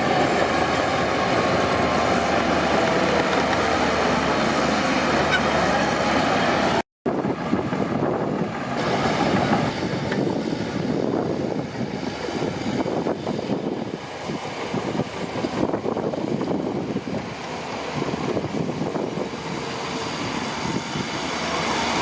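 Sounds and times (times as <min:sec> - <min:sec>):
bulldozer diesel engine: 0:00.0 - 0:22.0
steel tracks rattling: 0:00.0 - 0:22.0.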